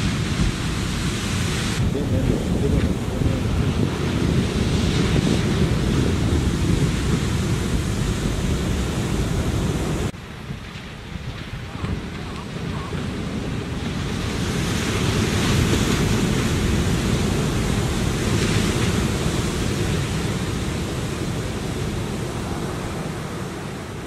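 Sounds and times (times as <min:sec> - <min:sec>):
ocean surf on sandy beach: 0:00.0 - 0:24.0.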